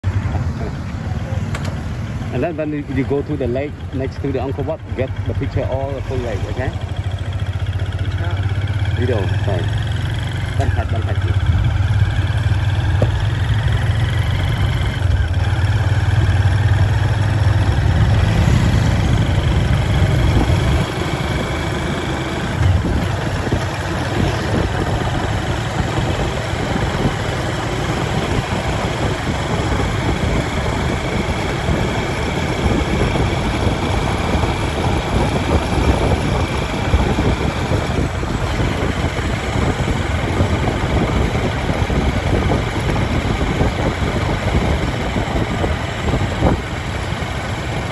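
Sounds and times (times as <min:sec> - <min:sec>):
road and wind noise: 0:00.0 - 0:47.9
vehicle engine running: 0:00.0 - 0:47.9.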